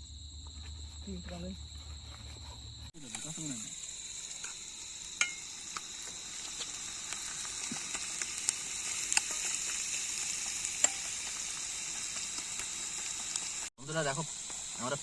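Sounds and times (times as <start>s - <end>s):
sharp pops and crackles: 2.4s - 15.0s
oil sizzling in a pan: 2.9s - 15.0s.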